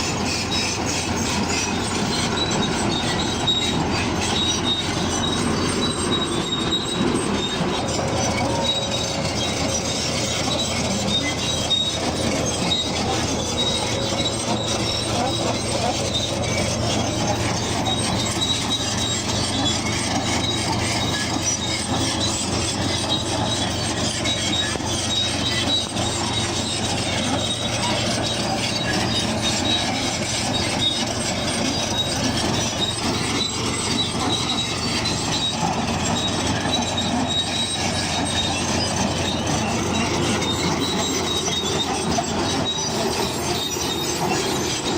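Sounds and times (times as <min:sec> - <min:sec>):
bulldozer engine under load: 0:00.0 - 0:44.9
steel tracks squealing and clanking: 0:00.0 - 0:44.9.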